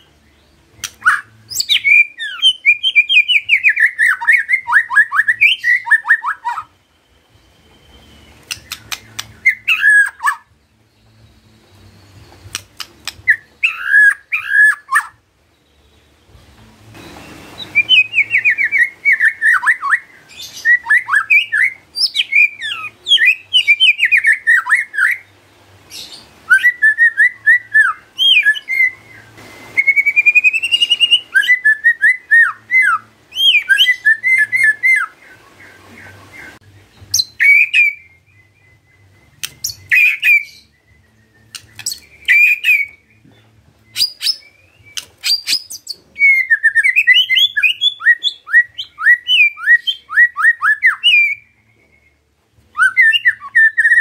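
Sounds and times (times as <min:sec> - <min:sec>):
songbird whistles and trills: 0:00.0 - 0:54.0.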